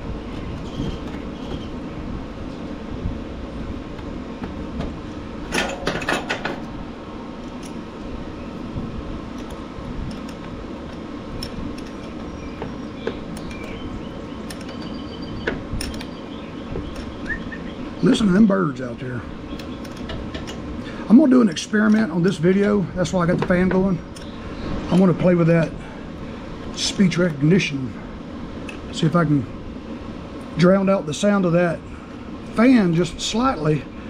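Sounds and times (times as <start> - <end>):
shop fan noise: 0.0 - 34.0.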